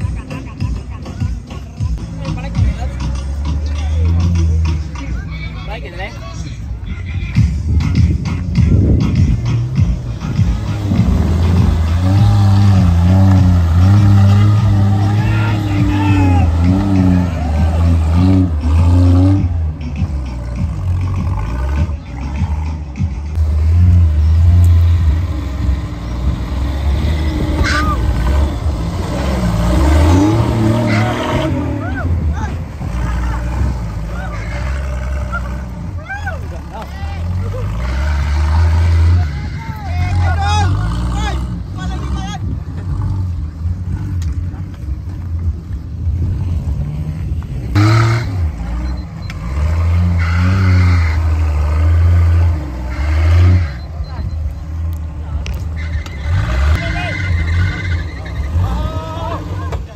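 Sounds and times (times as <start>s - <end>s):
buggy engine running loud: 0.0s - 59.9s.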